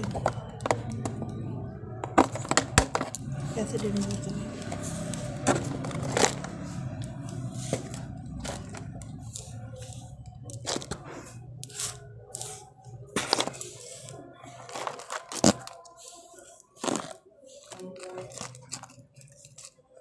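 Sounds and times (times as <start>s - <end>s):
plastic trays crinkling: 2.0s - 20.0s.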